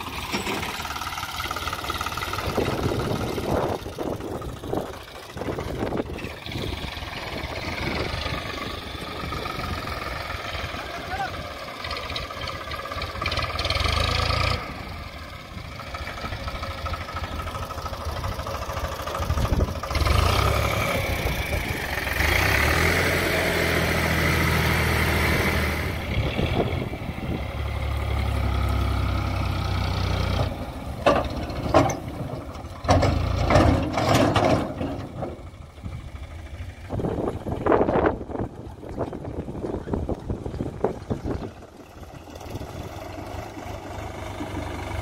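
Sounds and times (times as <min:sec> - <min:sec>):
tractor diesel engine droning: 0:00.0 - 0:45.0.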